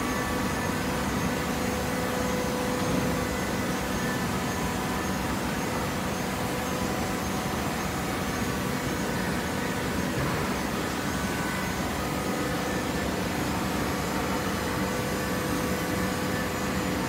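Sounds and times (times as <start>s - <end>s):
hydraulic baler running: 0.0s - 17.0s.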